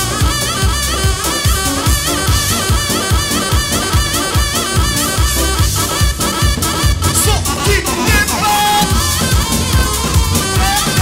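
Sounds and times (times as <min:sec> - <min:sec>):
bass drums pounding: 0:00.0 - 0:11.0.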